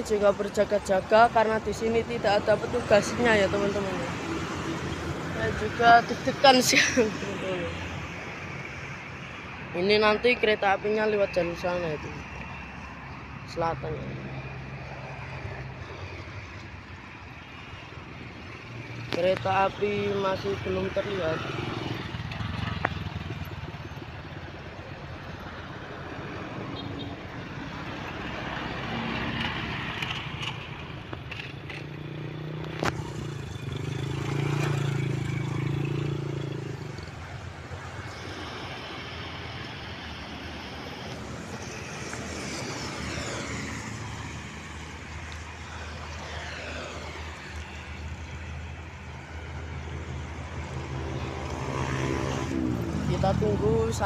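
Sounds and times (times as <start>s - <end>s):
motorcycles and cars passing: 0.0s - 54.0s.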